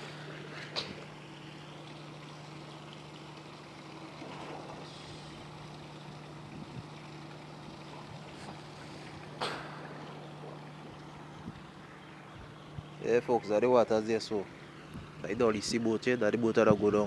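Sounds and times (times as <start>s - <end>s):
ferry engine idling: 0.0s - 16.8s
water noise: 0.0s - 17.0s
wind: 0.0s - 17.0s.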